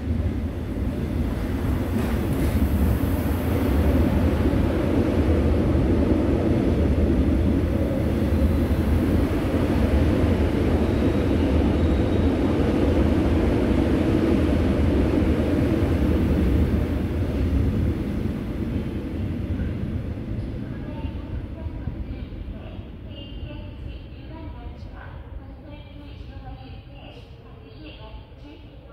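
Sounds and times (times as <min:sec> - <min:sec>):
subway train wheels rumbling: 0:00.0 - 0:28.9.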